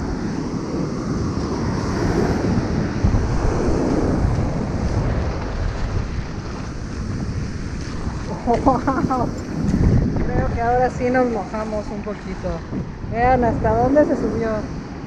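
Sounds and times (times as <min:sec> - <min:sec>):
surf breaking on sand: 0:00.0 - 0:15.0
wind buffeting microphone: 0:00.0 - 0:15.0.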